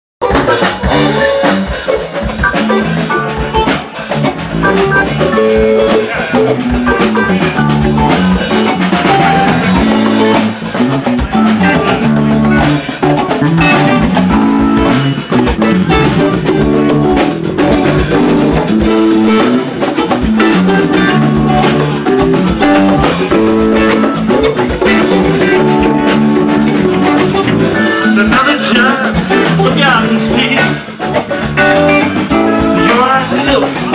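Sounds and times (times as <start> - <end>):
bass line: 0.2 - 33.9
conga drums: 0.2 - 33.9
drum kit: 0.2 - 33.9
electric guitar: 0.2 - 33.9.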